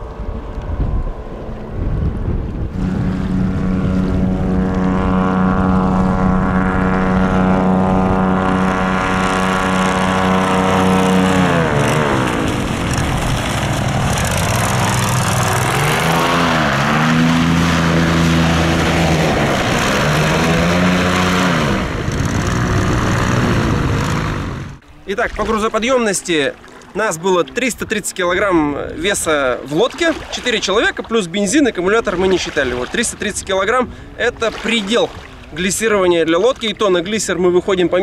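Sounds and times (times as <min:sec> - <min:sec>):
airboat engine and propeller: 0:00.0 - 0:38.0.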